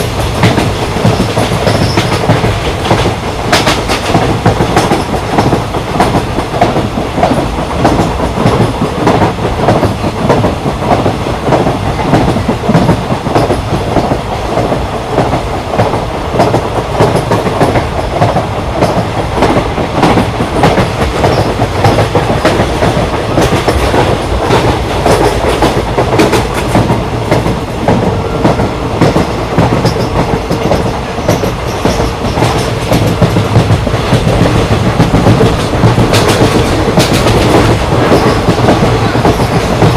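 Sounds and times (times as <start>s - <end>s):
train wheels rumbling on rails: 0.0s - 39.9s
rapid clicks and knocks: 0.2s - 39.9s.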